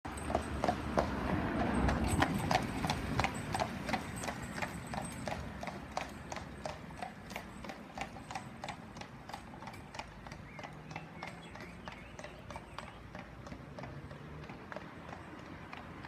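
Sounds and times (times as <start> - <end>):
horse hooves clip-clopping: 0.1 - 16.0.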